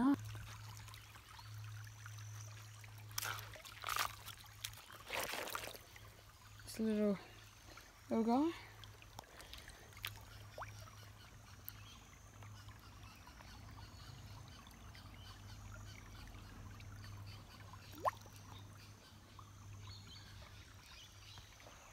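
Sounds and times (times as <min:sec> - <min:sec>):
water sloshing and trickling: 0:00.0 - 0:21.9.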